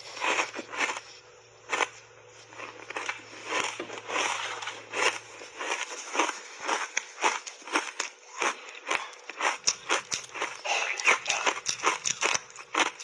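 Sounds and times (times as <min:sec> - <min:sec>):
crisp crunching of chewed ice: 0:00.0 - 0:13.0.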